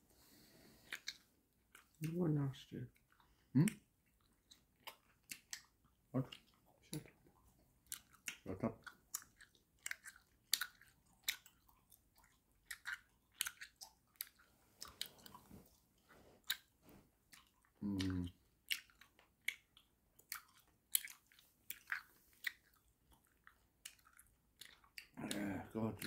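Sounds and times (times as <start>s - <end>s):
candy chewing wet clicks: 0.8s - 2.2s, 2.9s - 26.0s.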